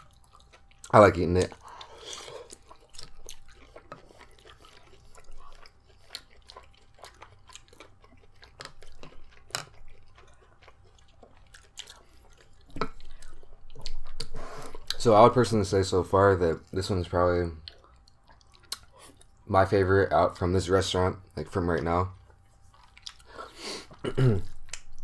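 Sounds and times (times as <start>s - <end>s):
person chewing food: 0.0s - 15.4s, 16.4s - 19.5s, 21.8s - 25.0s.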